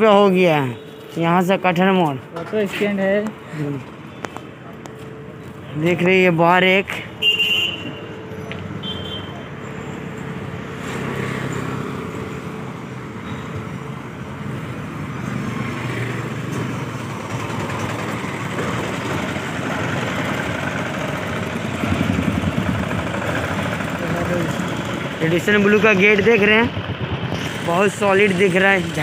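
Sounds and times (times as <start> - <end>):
motorcycle and scooter engines: 0.0 - 29.0.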